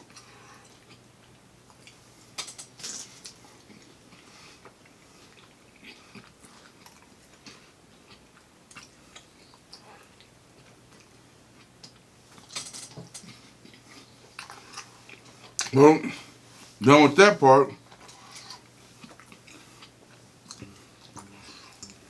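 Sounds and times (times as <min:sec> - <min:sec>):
soft chewing: 0:00.0 - 0:16.8, 0:17.7 - 0:22.0.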